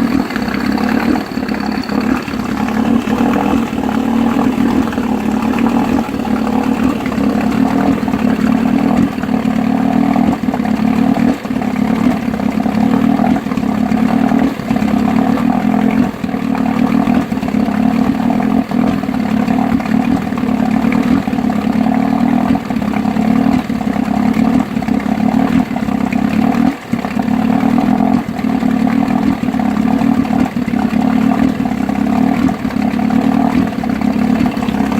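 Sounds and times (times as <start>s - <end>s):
outboard motor running and coughing: 0.0s - 34.9s.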